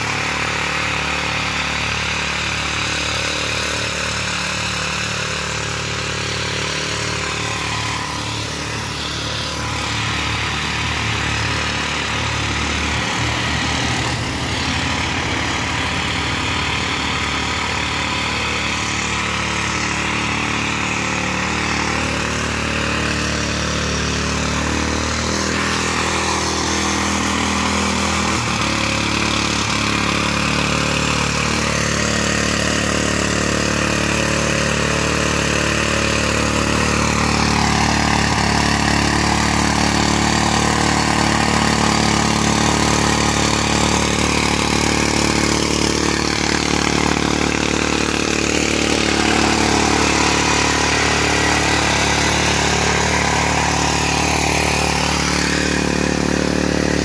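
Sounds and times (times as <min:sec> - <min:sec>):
tiller engine running: 0:00.0 - 0:57.0.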